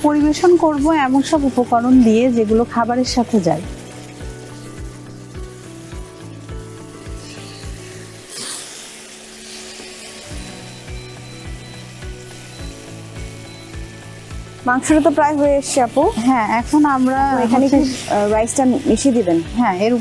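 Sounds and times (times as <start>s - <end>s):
background music with steady beat: 0.0s - 20.0s
chicken sizzling in a pan: 0.0s - 20.0s.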